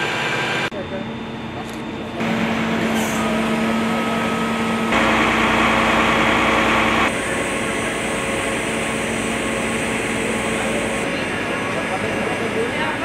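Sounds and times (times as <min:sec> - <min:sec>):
fire truck engines running: 0:00.0 - 0:13.0.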